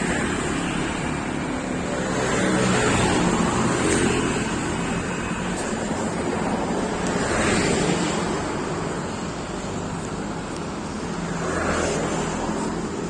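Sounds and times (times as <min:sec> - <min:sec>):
low engine and road rumble: 0:00.0 - 0:13.0.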